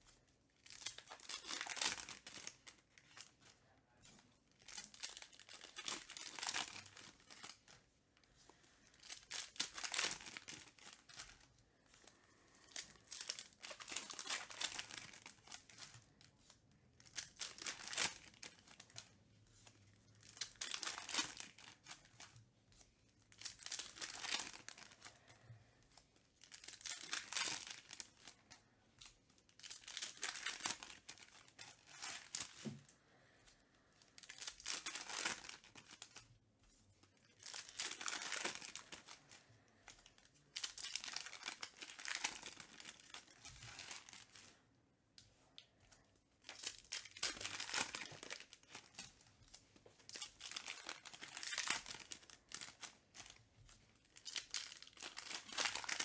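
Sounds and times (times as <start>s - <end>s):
card pack wrappers crinkling and tearing: 0.6s - 3.5s, 4.5s - 7.8s, 8.9s - 11.5s, 12.1s - 16.3s, 17.0s - 22.4s, 23.1s - 32.9s, 33.9s - 36.3s, 37.0s - 44.6s, 46.4s - 56.0s.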